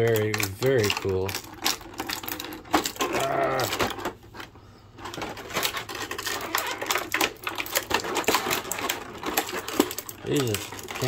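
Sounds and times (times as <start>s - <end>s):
plastic toy parts clicking: 0.0s - 11.0s.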